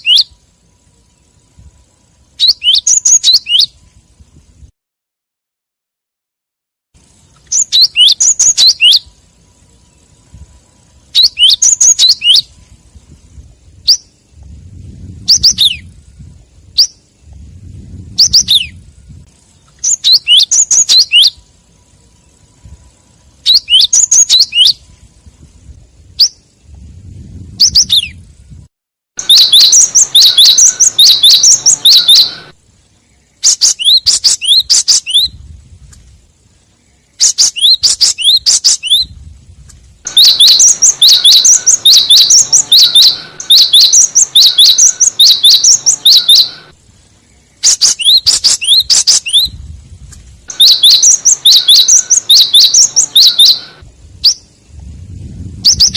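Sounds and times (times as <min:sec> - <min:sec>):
bird chirping: 0:00.0 - 0:03.9, 0:07.0 - 0:25.4, 0:26.1 - 0:28.6, 0:29.2 - 0:55.9.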